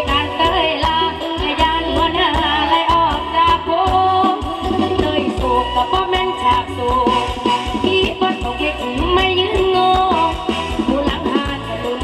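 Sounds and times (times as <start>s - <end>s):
live band music: 0.0s - 12.0s
woman singing: 0.0s - 12.0s.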